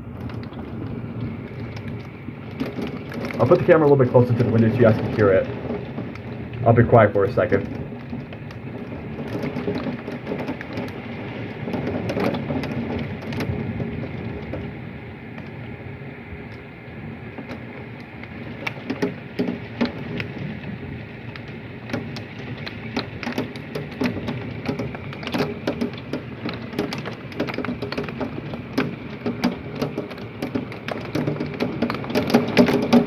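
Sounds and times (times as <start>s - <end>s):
hailstones pelting window: 0.0s - 33.0s
heavy rain: 0.0s - 33.0s.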